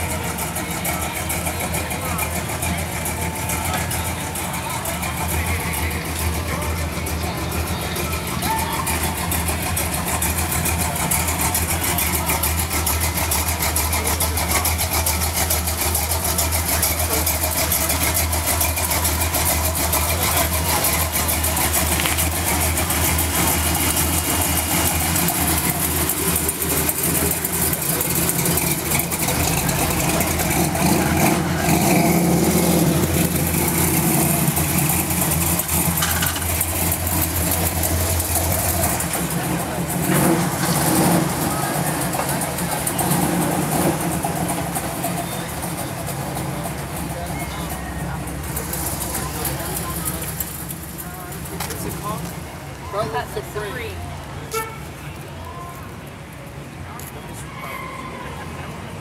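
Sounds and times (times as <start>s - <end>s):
car engine idling: 0.0s - 57.4s.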